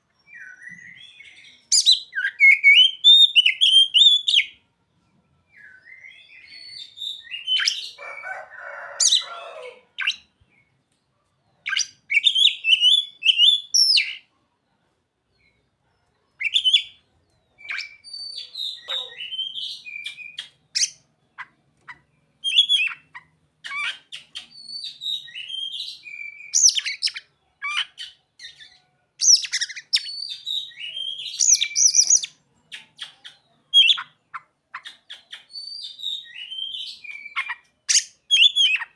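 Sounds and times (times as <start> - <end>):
magpie-robin singing: 0.1 - 4.6, 5.5 - 8.0, 10.0 - 10.7, 11.6 - 14.3, 16.3 - 38.9.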